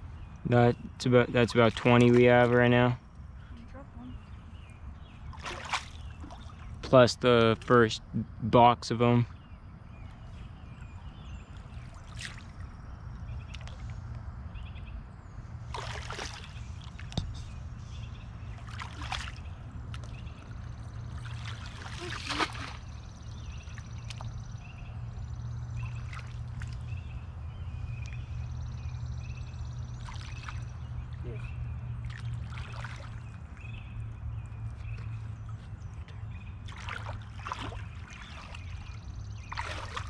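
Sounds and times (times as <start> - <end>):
water sloshing and splashing: 1.4 - 2.9, 4.3 - 7.0, 10.0 - 14.2, 15.5 - 24.6, 25.2 - 40.0.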